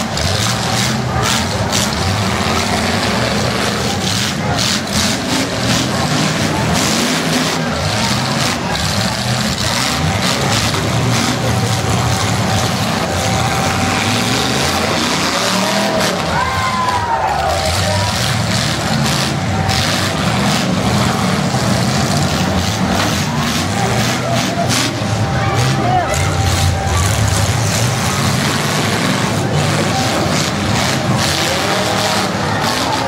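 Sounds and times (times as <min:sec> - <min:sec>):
car engines revving: 0:00.0 - 0:33.0
crowd voices: 0:00.0 - 0:33.0.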